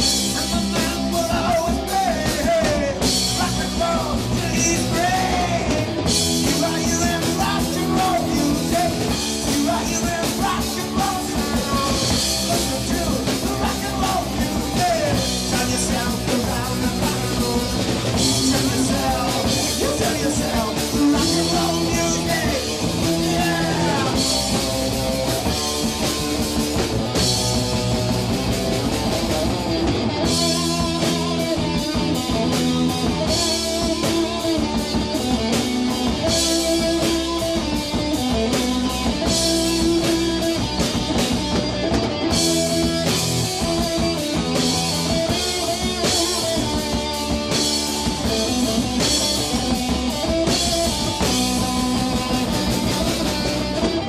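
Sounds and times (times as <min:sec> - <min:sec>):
drum kit with crashing cymbals: 0:00.0 - 0:54.0
electric guitars playing chords: 0:00.0 - 0:54.0.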